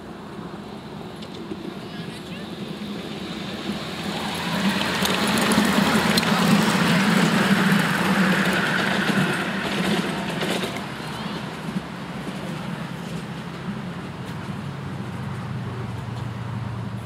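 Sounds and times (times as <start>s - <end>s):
locomotive humming: 0.0s - 17.0s
train clicking on track: 0.0s - 17.0s.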